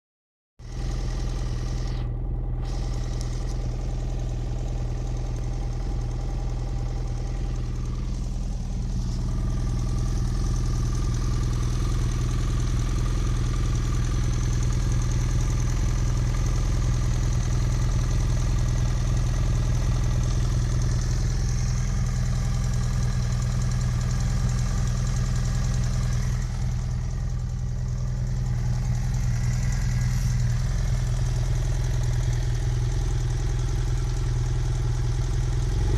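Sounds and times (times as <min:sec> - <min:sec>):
engine rattling: 0:00.6 - 0:35.9
motorcycle engine idling: 0:00.6 - 0:35.9.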